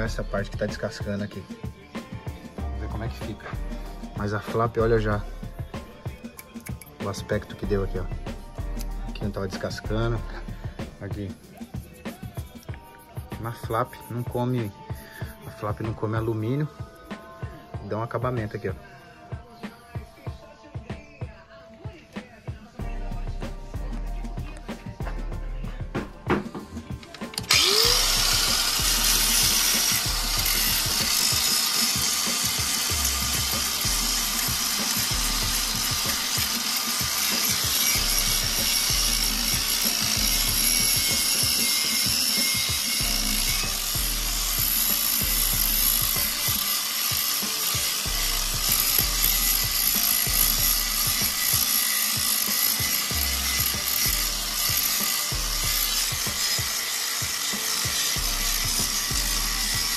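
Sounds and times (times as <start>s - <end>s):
angle grinder sanding metal: 3.2s - 17.4s, 26.0s - 59.9s.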